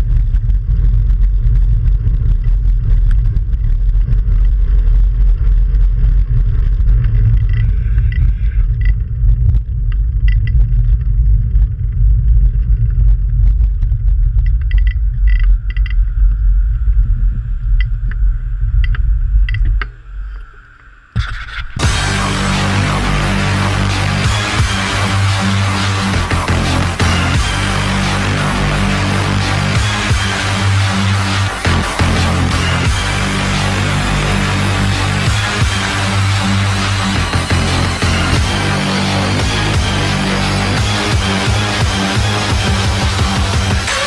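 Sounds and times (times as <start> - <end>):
road rumble: 0.0 - 44.0.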